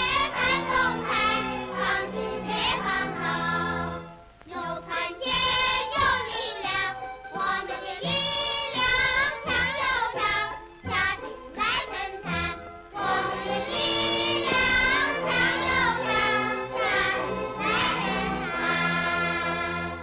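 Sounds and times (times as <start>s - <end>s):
singing with instrumental accompaniment: 0.0s - 20.0s.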